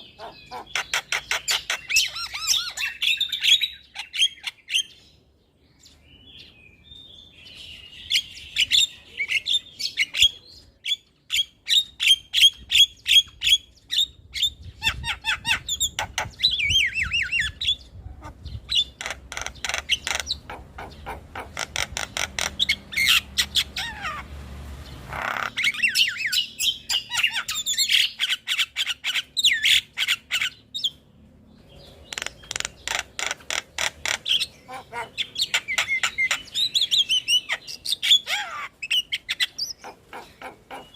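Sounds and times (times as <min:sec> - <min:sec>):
bird chattering and squawking: 0:00.0 - 0:05.1, 0:08.0 - 0:31.0, 0:31.7 - 0:40.9.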